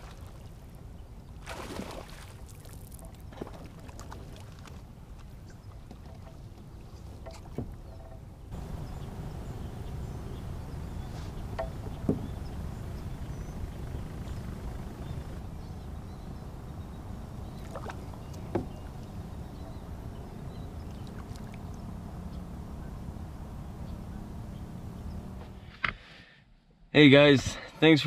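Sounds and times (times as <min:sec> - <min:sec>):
water and wind noise: 0:00.0 - 0:25.6.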